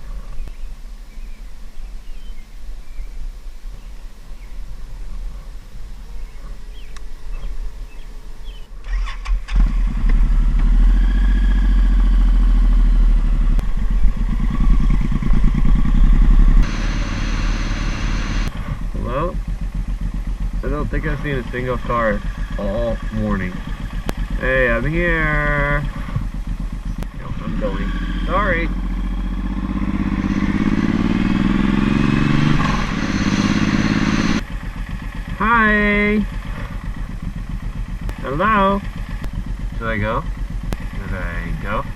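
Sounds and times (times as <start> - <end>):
motorcycle engine starting and idling: 4.9 - 41.9.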